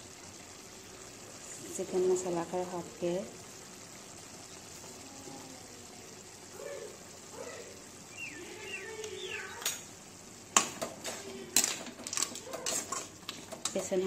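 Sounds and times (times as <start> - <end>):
curry simmering hiss: 0.0 - 14.0.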